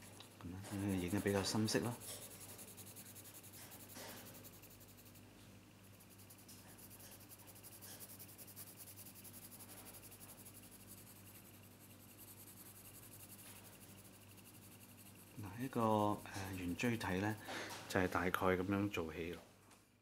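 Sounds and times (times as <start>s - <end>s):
pencil scratching on paper: 0.0s - 5.2s, 5.8s - 17.4s
low steady hum: 0.0s - 17.5s.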